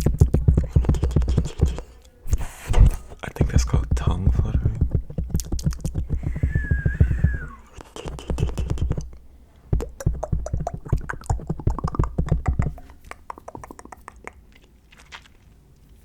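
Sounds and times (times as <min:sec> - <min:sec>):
low thumps: 0:00.0 - 0:14.0
mouth clicks and pops: 0:00.0 - 0:15.6.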